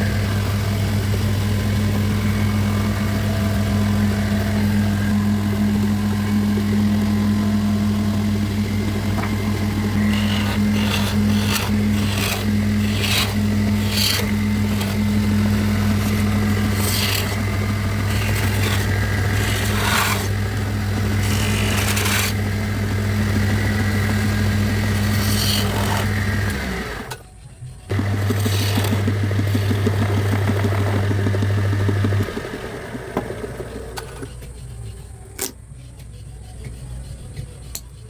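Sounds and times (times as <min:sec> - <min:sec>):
electric motor humming: 0:00.0 - 0:27.3, 0:27.9 - 0:38.0
tool scraping wood: 0:01.8 - 0:27.3, 0:27.9 - 0:38.0.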